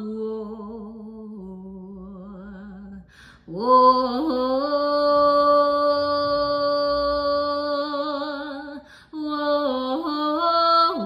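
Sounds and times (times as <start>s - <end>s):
woman singing gospel: 0.0s - 11.0s.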